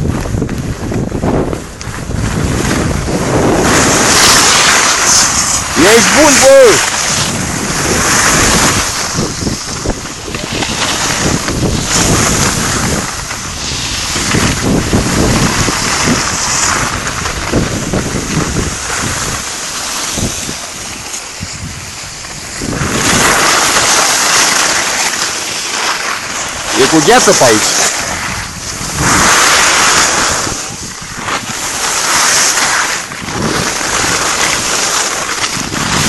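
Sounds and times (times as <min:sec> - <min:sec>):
skis scraping over icy snow: 0:00.0 - 0:36.0
wind rushing over microphone: 0:00.0 - 0:36.0.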